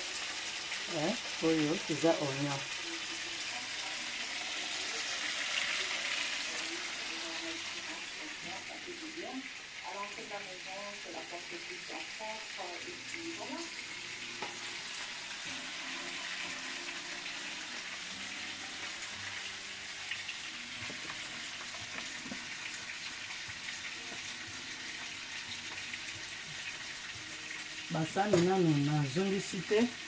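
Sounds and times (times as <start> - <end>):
oil popping and crackling: 0.0 - 9.7, 11.9 - 30.0
food sizzling in hot oil: 0.0 - 30.0.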